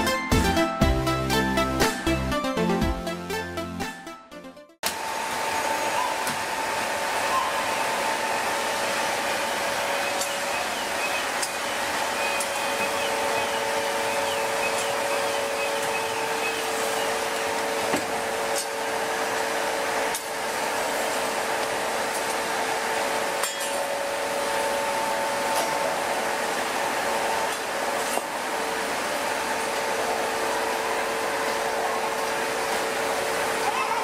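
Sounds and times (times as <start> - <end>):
two-tone machine whine: 4.8 - 33.7
furnace and blowers roaring hiss: 4.8 - 34.0.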